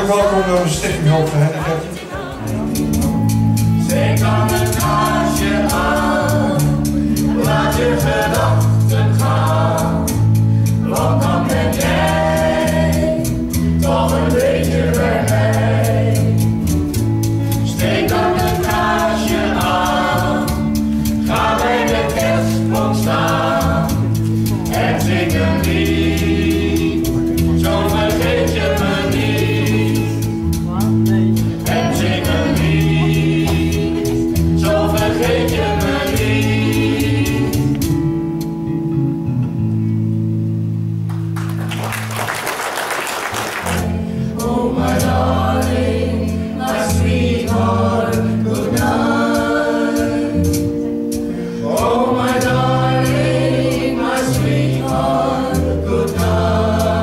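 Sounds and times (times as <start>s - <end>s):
group singing in harmony: 0.0s - 38.2s, 42.8s - 57.0s
steady ticking beat: 0.0s - 38.8s, 43.8s - 57.0s
instrumental backing with bass: 0.0s - 57.0s.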